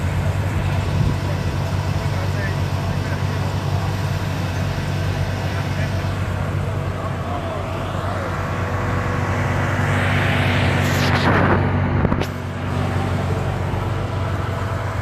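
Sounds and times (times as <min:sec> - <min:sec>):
rush of noise: 0:00.0 - 0:15.0
vehicle engine running: 0:00.0 - 0:15.0.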